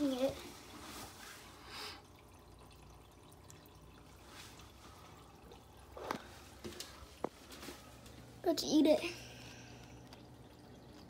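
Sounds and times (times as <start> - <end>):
low steady hum: 0.0 - 11.0
water dripping and trickling: 0.0 - 11.0.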